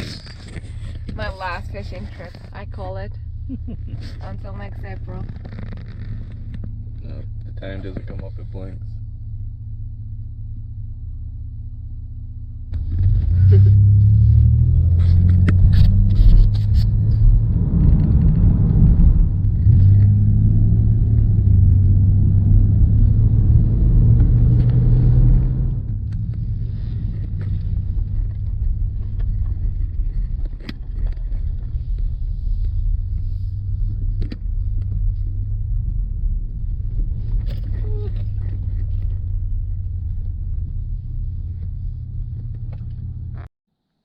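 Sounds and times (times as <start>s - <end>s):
car engine and road rumble: 0.0s - 43.5s.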